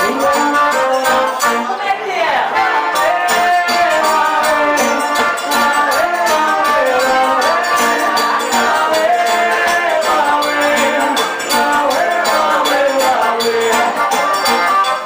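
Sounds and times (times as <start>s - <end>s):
hand percussion: 0.0s - 1.8s, 2.8s - 15.0s
accordion: 0.0s - 15.0s
guitar: 0.0s - 15.0s.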